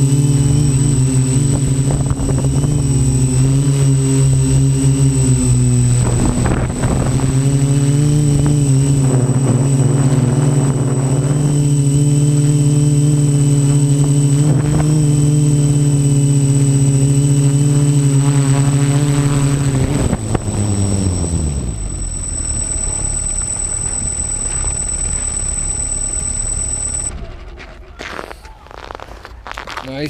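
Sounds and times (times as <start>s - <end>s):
high whine: 0.0s - 27.4s
drone motors humming: 0.0s - 28.2s.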